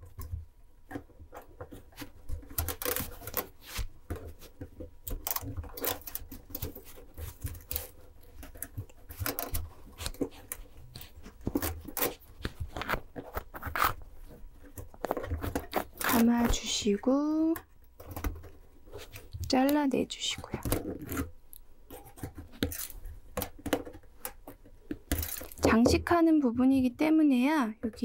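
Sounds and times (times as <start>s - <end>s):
wire clicking and scraping on metal: 0.9s - 25.8s.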